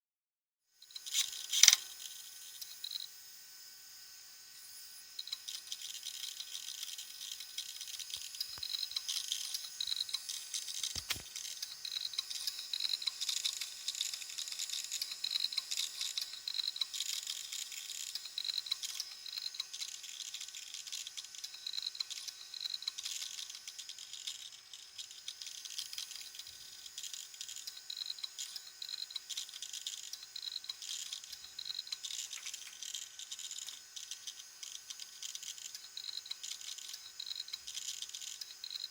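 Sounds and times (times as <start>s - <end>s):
hard drive grinding clicks: 5.2s - 38.9s.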